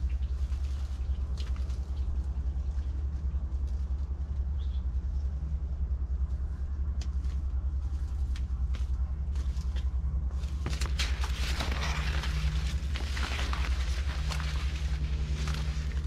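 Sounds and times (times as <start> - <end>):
dry corn leaves rustling: 0.0 - 5.5, 6.1 - 16.0
steady low rumble: 0.0 - 16.0.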